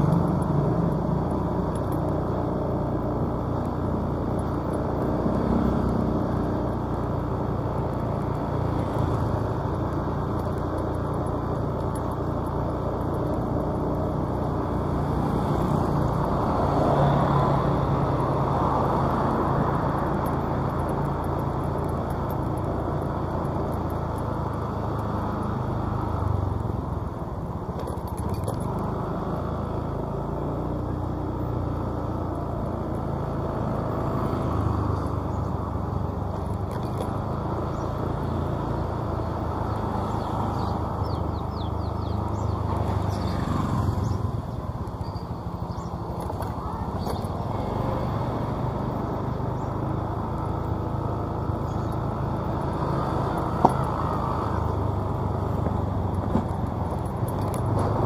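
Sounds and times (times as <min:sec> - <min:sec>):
road noise: 0:00.0 - 0:58.0
vehicle engine hum: 0:00.0 - 0:58.0.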